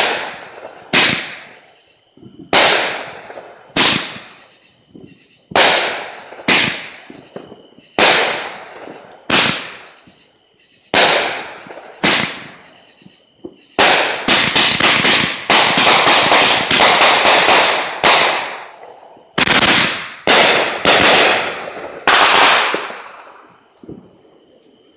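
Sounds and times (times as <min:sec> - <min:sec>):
firework bangs: 0:00.0 - 0:10.2, 0:10.9 - 0:24.2.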